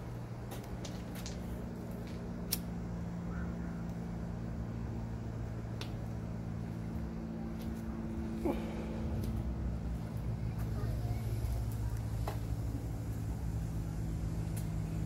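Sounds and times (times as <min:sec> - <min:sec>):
pickup engine idling: 0:02.9 - 0:15.0.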